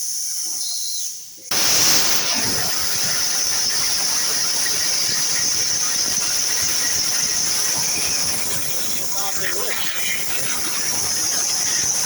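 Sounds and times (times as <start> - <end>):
plasma cutter hissing and whining: 1.5 - 12.0.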